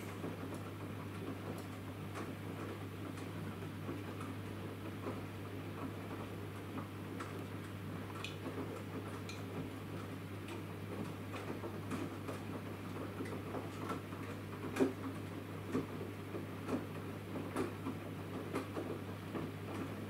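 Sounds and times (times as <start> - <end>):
washing machine drum hum: 0.0 - 20.0.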